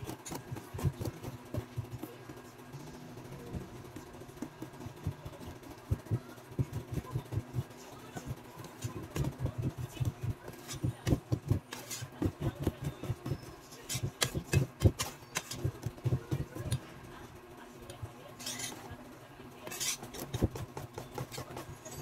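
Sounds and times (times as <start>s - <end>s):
whisk beating batter in metal bowl: 0.0s - 22.0s.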